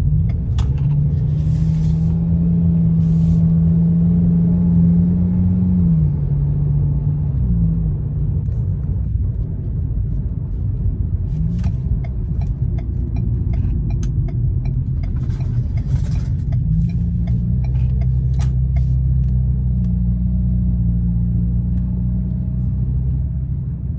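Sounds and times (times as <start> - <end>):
low exhaust drone: 0.0 - 23.9
wind and road rumble: 0.0 - 23.9.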